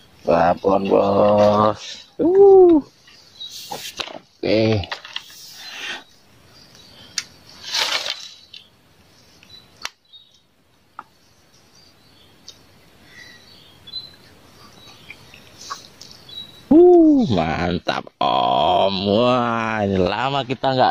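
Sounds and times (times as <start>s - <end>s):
faint birds chirping: 0.0s - 20.9s.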